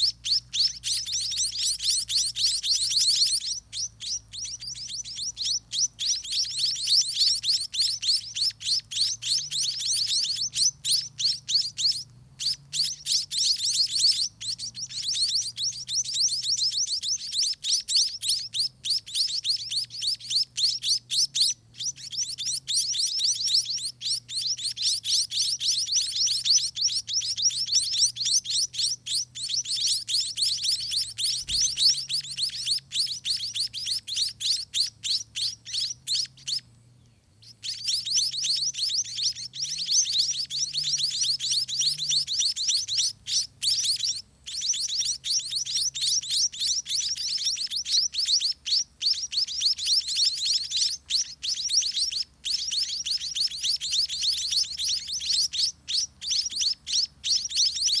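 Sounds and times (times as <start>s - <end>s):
nestlings chirping: 0.0s - 58.0s.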